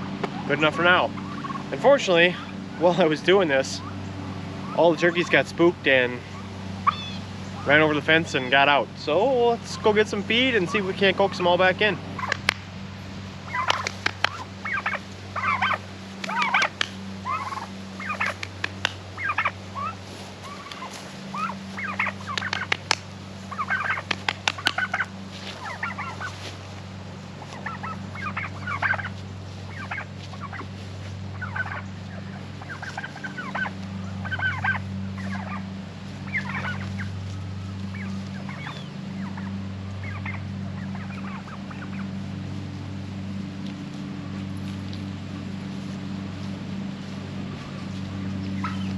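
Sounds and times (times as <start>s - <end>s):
steady low hum: 0.0s - 48.9s
turkeys calling: 0.0s - 48.9s.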